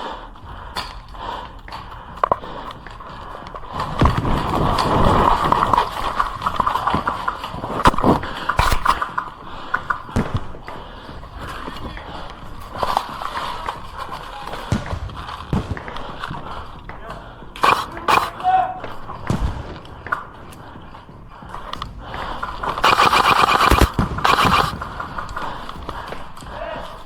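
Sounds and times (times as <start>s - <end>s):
running footsteps and rattling kit: 0.0s - 27.0s.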